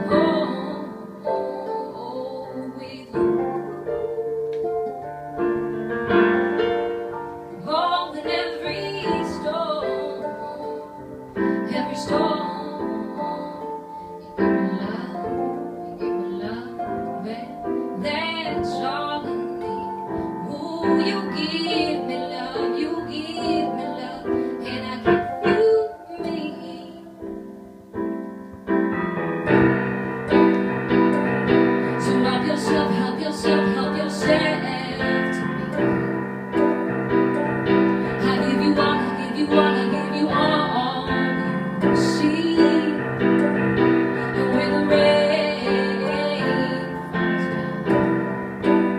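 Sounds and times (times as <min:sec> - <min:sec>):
woman singing: 0:00.0 - 0:05.1, 0:07.5 - 0:27.7, 0:30.3 - 0:48.9
piano: 0:00.0 - 0:48.9.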